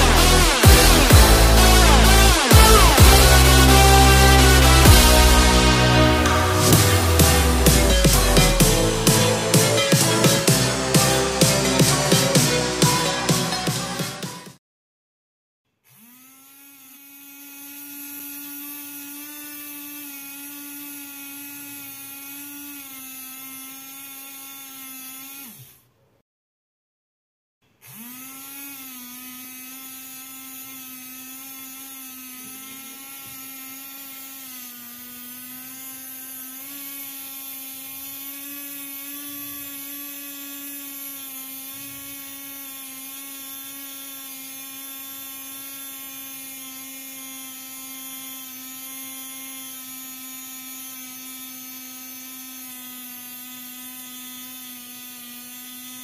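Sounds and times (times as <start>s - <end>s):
small electric motor whining: 0.0s - 14.5s, 15.8s - 25.9s, 27.7s - 56.0s.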